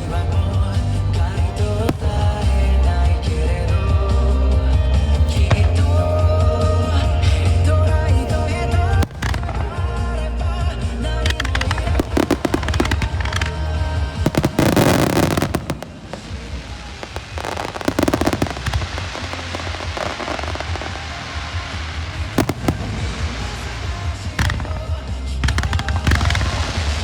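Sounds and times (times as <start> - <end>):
fireworks bursting and crackling: 0.0 - 27.0
music over loudspeakers: 0.0 - 27.0.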